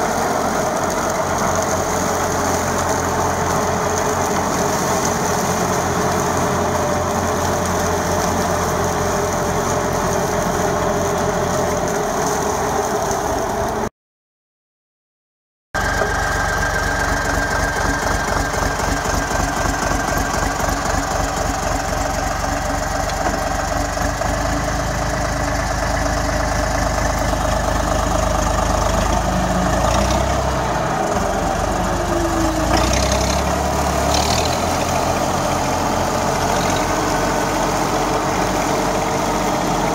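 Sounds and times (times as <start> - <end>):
tractor diesel engine running: 0.0 - 13.9, 15.8 - 39.9.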